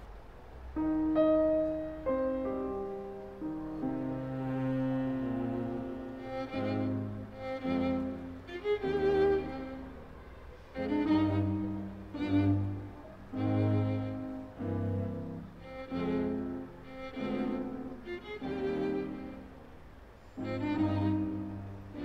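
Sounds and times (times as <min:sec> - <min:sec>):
slow violin and cello music: 0:00.8 - 0:22.0.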